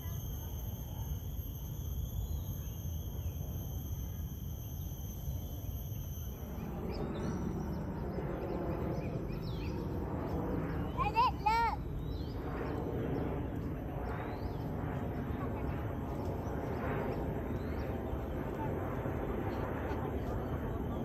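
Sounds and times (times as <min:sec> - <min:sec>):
insects buzzing: 0:00.0 - 0:21.0
jet aircraft passing overhead: 0:00.0 - 0:21.0.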